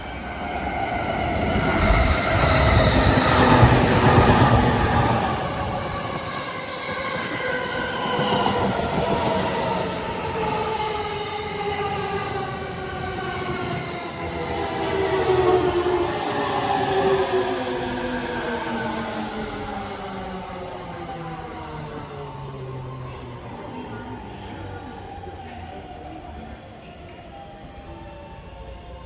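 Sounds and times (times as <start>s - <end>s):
train wheels rumbling: 0.0s - 24.2s.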